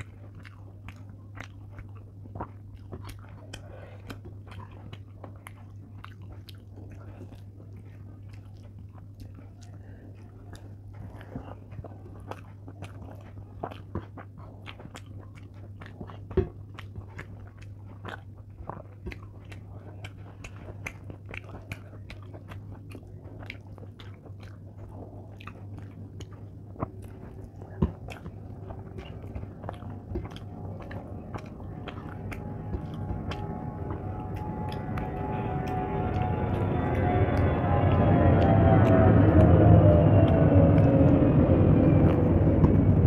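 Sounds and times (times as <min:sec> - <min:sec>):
chewing and wet mouth clicks: 0:00.0 - 0:43.0
low hum: 0:00.0 - 0:43.0.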